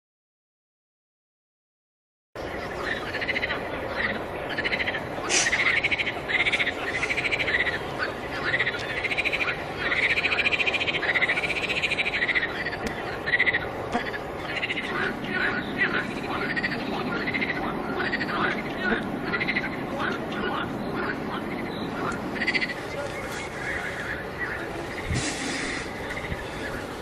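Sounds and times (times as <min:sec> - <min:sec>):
frogs calling: 0:02.4 - 0:27.0
steady background noise: 0:02.4 - 0:27.0.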